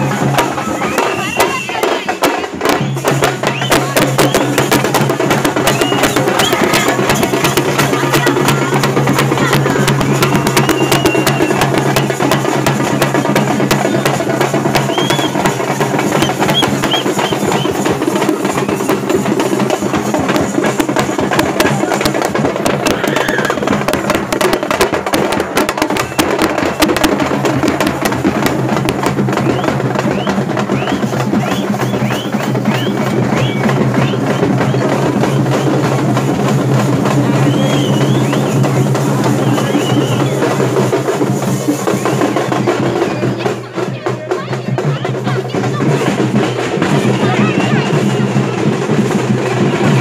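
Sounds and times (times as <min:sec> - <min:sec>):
crowd chatter: 0:00.0 - 0:50.0
fast dense drumming: 0:00.0 - 0:50.0.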